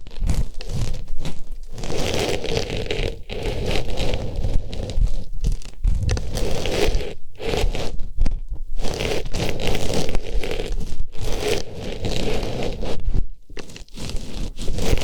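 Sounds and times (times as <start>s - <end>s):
fabric flower rubbing on microphone: 0.0s - 15.0s.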